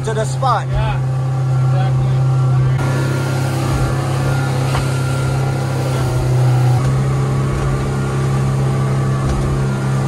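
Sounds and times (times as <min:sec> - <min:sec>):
motorboat engine drone: 0:00.0 - 0:10.0.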